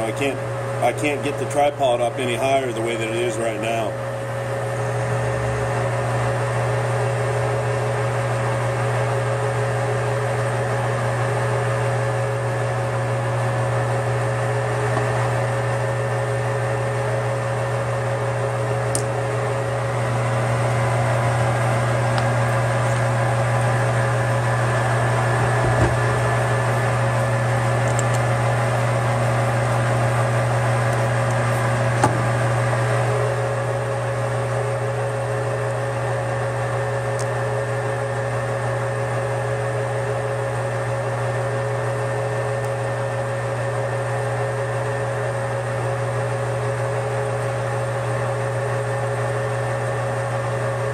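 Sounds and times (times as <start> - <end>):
metal lathe hum and whine: 0.0 - 50.9.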